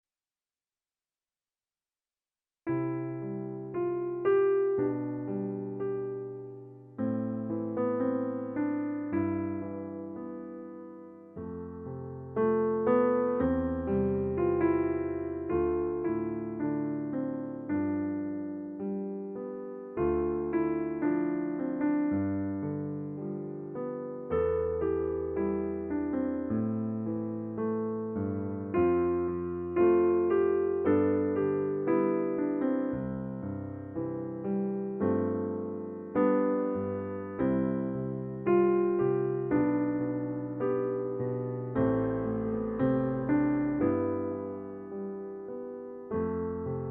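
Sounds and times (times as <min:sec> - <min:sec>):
slow gentle piano music: 0:02.7 - 0:46.9.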